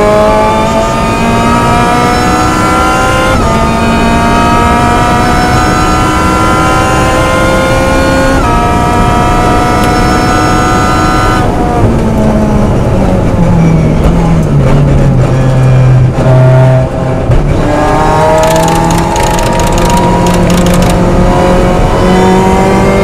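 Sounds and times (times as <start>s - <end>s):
car engine revving: 0.0s - 13.3s, 13.9s - 23.0s.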